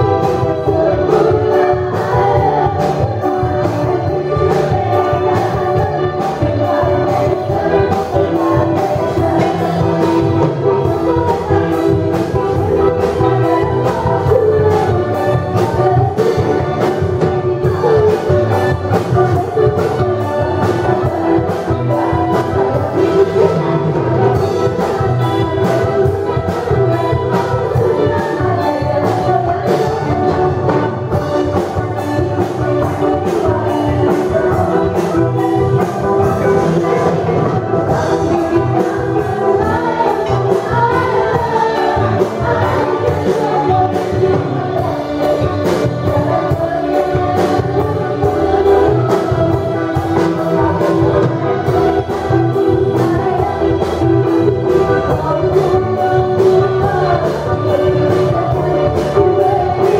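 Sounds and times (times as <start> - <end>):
drum kit beat: 0.0 - 59.9
electric bass: 0.0 - 59.9
electric guitar: 0.0 - 59.9
women singing into microphones: 0.0 - 59.9.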